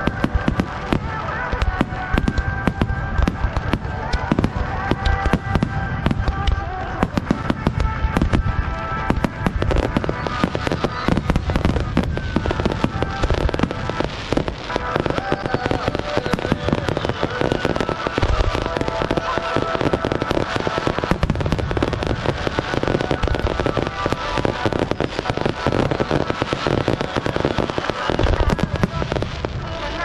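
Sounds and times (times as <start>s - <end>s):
fireworks bangs and crackles: 0.0s - 30.0s
heavy fireworks booms: 0.0s - 30.0s.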